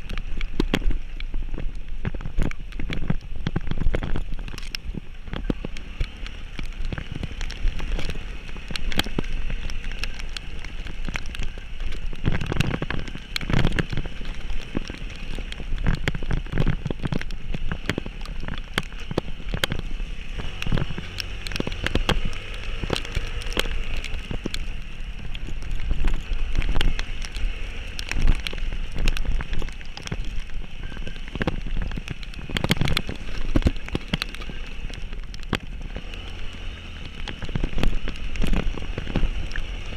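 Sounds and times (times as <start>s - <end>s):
heavy rain pattering: 0.0s - 39.9s
sharp knocks and crackles: 0.0s - 39.9s
vehicle rumbling: 0.0s - 39.9s.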